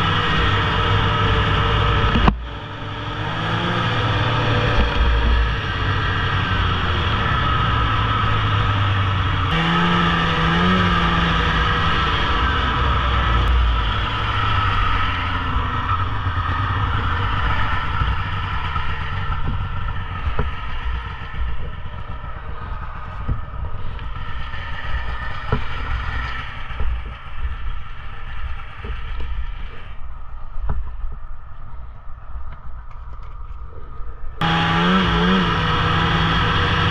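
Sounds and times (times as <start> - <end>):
snowmobile engine running: 0.0 - 29.1, 34.4 - 36.9.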